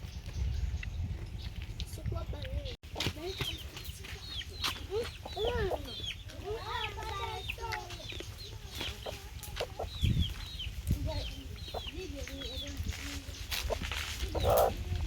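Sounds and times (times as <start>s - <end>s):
chickens clucking and chirping: 0.0s - 15.0s.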